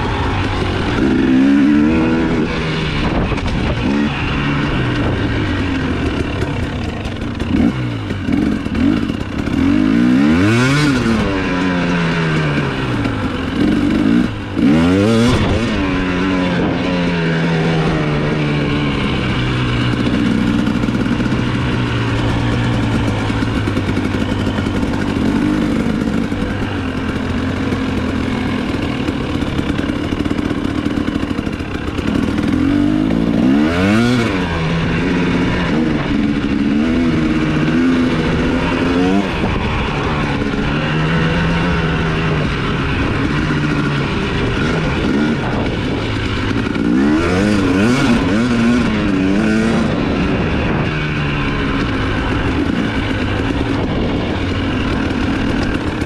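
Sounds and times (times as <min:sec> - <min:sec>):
two-stroke motocross engine revving: 0:00.0 - 0:56.0.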